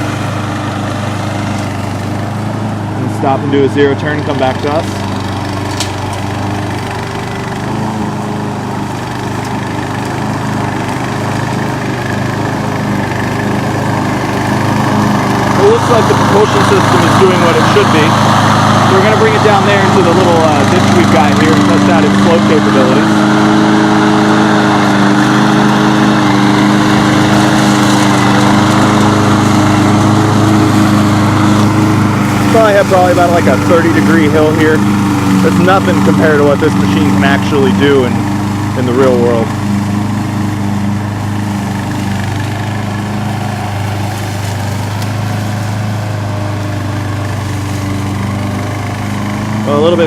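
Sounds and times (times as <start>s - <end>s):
mower engine running: 0.0s - 50.0s.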